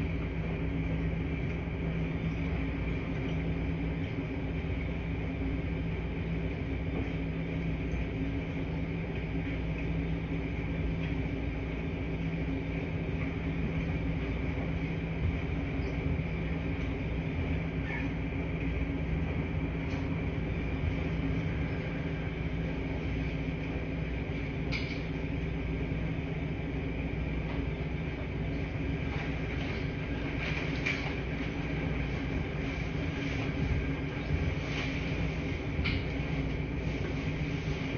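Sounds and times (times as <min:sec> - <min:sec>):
washing machines humming: 0:00.0 - 0:37.9.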